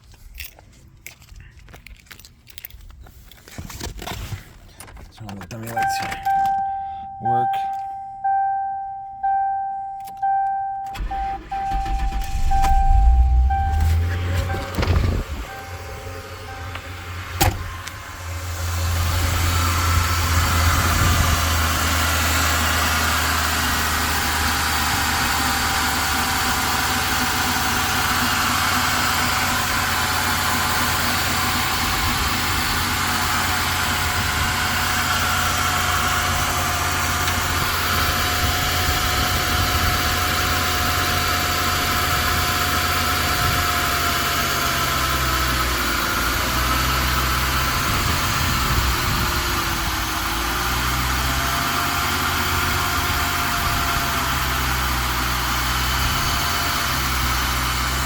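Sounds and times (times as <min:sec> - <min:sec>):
car engine idling: 0:05.2 - 0:58.0.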